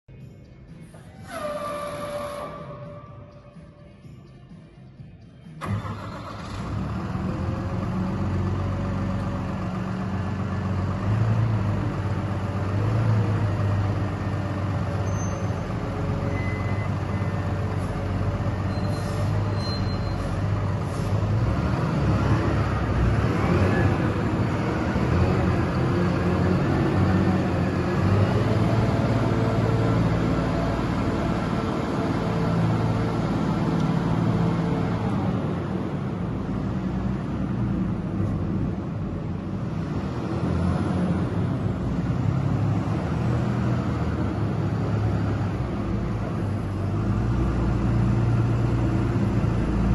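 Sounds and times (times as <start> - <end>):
diesel engine idling and revving: 0.1 - 49.9.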